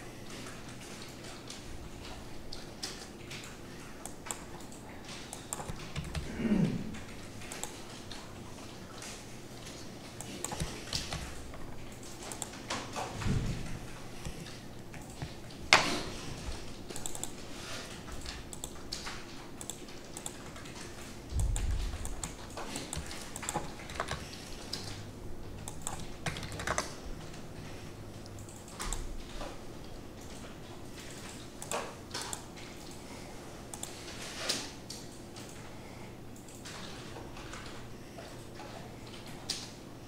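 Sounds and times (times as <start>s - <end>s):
typing on computer keyboard: 0.2s - 27.4s, 28.2s - 29.6s, 30.2s - 33.1s, 33.7s - 35.7s.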